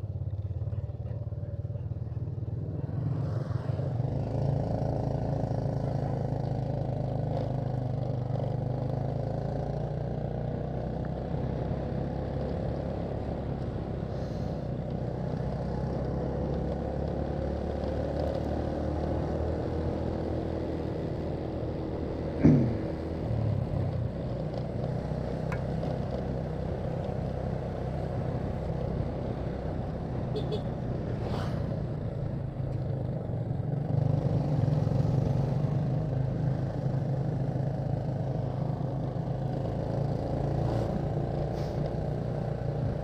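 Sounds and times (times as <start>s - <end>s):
motorcycle engine running: 0.0s - 3.2s, 3.9s - 43.0s.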